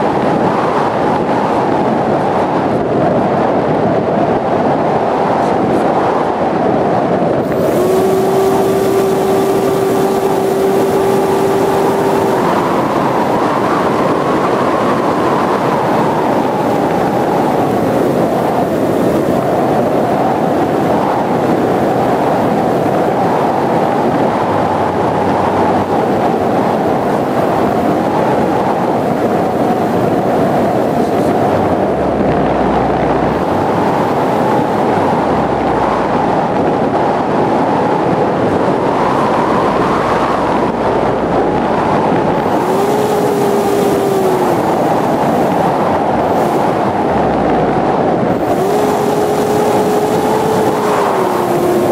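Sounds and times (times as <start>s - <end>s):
wind rushing over microphone: 0.0s - 51.9s
electric motor and propeller: 7.0s - 51.9s.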